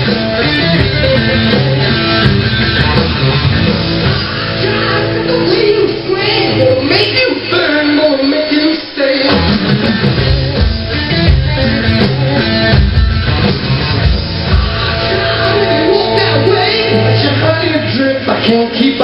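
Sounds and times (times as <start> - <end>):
hard rock song with singing: 0.0 - 19.0
heavy electric guitar riff: 0.0 - 19.0.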